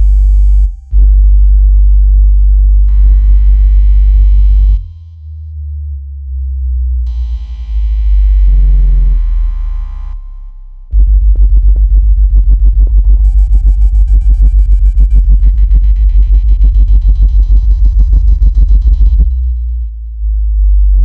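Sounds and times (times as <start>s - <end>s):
deep bass tones: 0.0s - 21.0s
pulsing deep bass: 0.0s - 21.0s.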